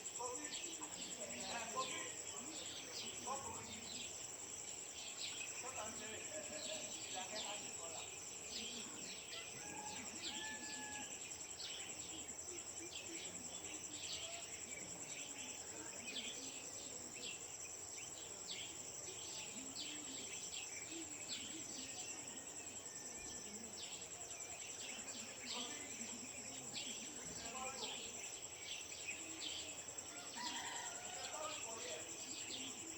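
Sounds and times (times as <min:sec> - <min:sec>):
high insect trill: 0:00.0 - 0:32.9.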